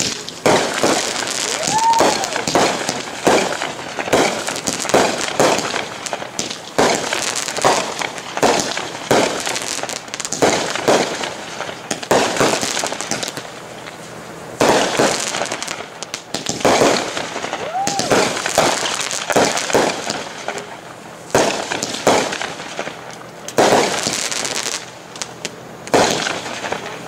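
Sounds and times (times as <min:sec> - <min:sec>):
hiss of sparks: 0:00.0 - 0:25.3
fireworks firing sharp reports: 0:00.0 - 0:27.0.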